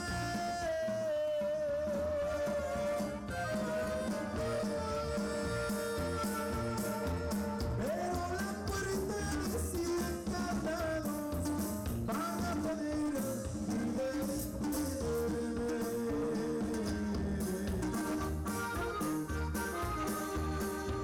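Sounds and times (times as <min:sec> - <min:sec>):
band playing dance music: 0:00.0 - 0:21.0.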